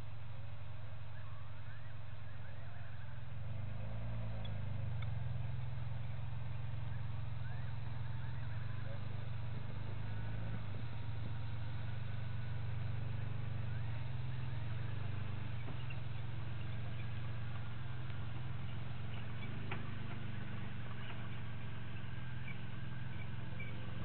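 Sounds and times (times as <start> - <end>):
vehicle engine idling: 0.0 - 24.0
faint high chirps: 4.4 - 24.0.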